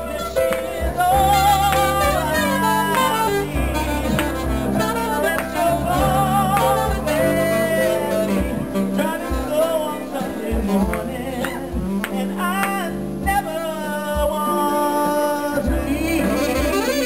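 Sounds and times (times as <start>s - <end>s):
man singing into a microphone: 0.0s - 17.0s
piano: 0.0s - 17.0s
saxophone: 0.0s - 17.0s.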